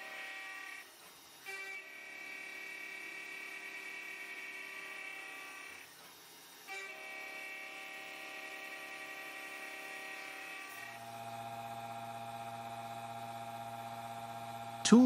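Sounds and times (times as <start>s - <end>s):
machine motors whining: 0.0s - 15.0s.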